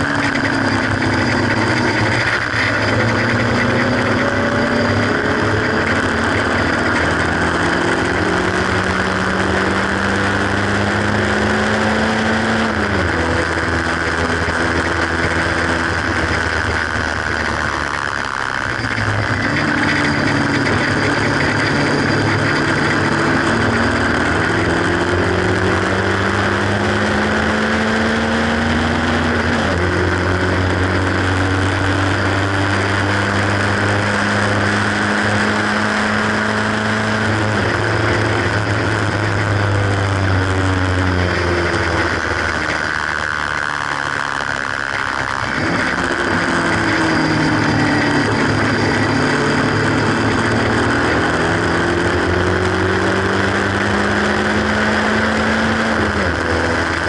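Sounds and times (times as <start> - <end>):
car engine pulling hard: 0.0 - 57.0.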